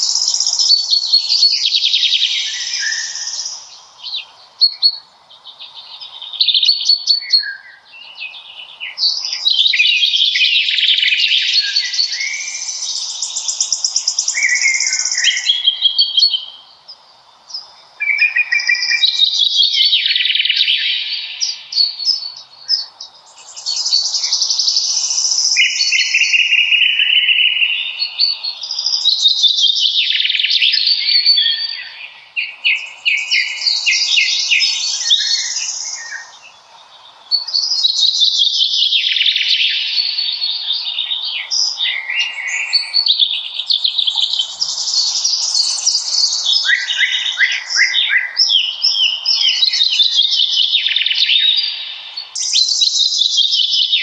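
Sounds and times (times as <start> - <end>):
faint background hiss: 0.0 - 54.0
songbirds trilling and chirping: 0.0 - 54.0.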